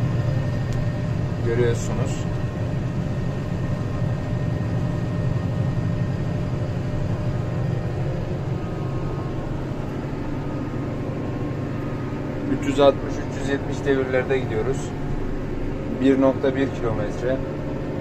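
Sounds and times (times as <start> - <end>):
faint machinery whine: 0.0 - 18.0
tractor engine drone: 0.0 - 18.0.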